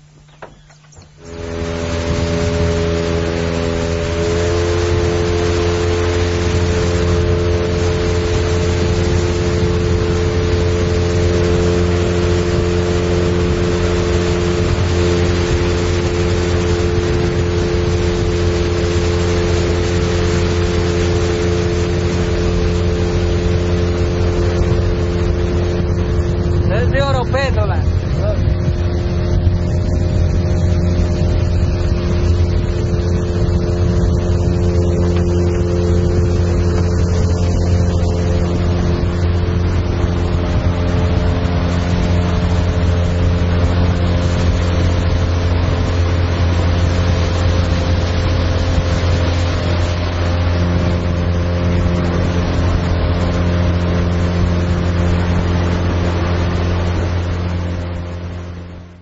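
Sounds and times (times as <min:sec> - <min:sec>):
boat motor running: 0:00.0 - 0:59.0
rushing water: 0:00.0 - 0:59.0
wind: 0:00.0 - 0:59.0.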